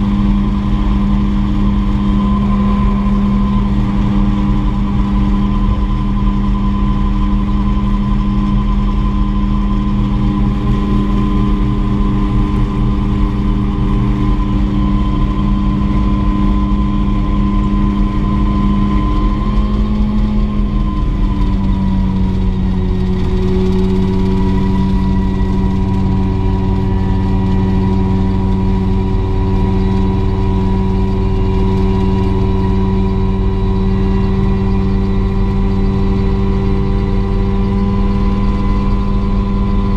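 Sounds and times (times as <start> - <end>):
helicopter turbine engine running: 0.0 - 39.9.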